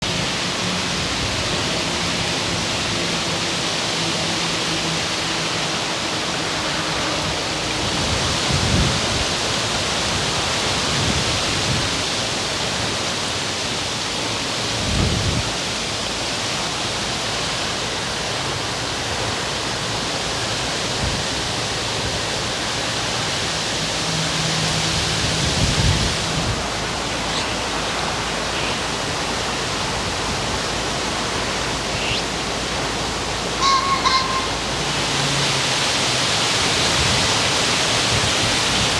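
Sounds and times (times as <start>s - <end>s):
wind gusts buffeting microphone: 0.0s - 38.9s
wind rustling tree leaves: 0.0s - 38.9s.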